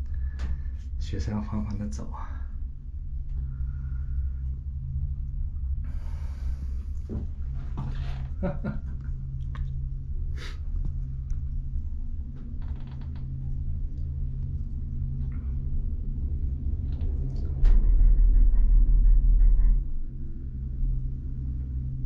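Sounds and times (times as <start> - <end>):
cable car rumbling: 0.0 - 22.0
loud low rumble with whine: 0.0 - 22.0.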